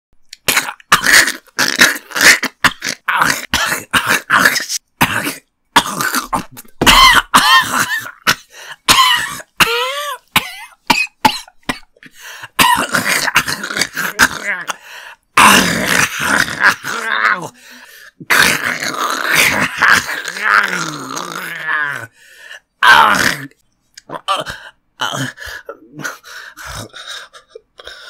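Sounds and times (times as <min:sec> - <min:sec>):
person retching and gagging: 0:00.3 - 0:22.1, 0:22.8 - 0:28.0.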